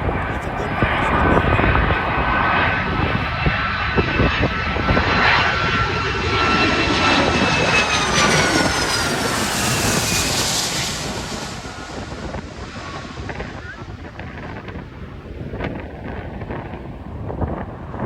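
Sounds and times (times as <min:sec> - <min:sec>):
jet engines whining and roaring: 0:00.0 - 0:18.0
wind buffeting microphone: 0:00.0 - 0:18.0.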